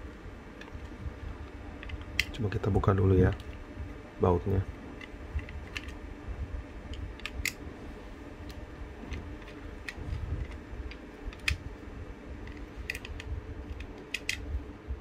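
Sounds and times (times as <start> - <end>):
soft handling noise: 0.0 - 14.7.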